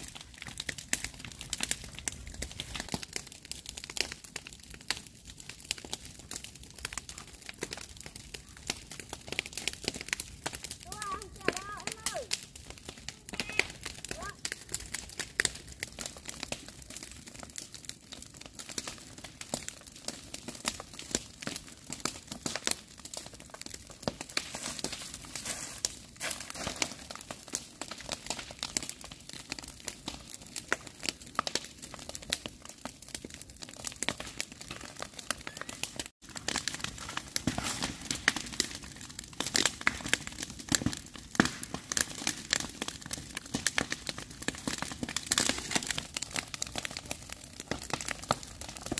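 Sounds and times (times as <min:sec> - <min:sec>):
dry grass crackling fire: 0:00.0 - 0:48.9.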